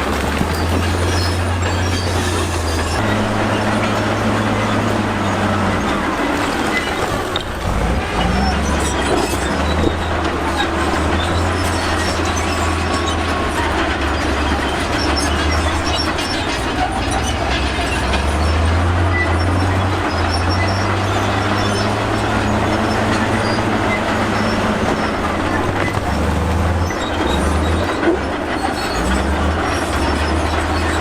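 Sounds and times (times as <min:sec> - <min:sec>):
diesel engine drone: 0:00.0 - 0:31.0
steel tracks clanking and squealing: 0:00.0 - 0:31.0.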